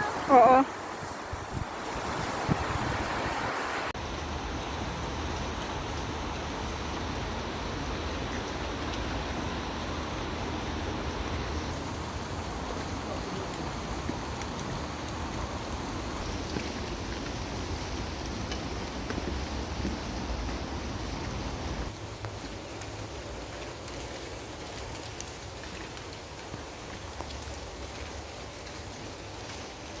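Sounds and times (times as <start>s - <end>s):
steady rain hiss: 0.0s - 30.0s
raindrops ticking: 4.0s - 30.0s.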